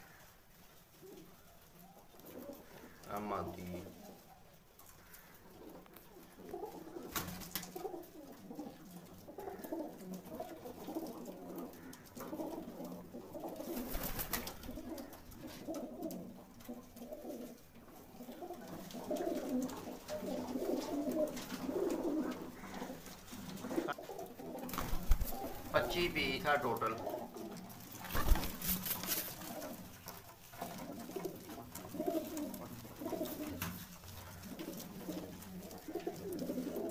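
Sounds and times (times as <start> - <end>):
pigeons cooing: 0.0 - 36.9.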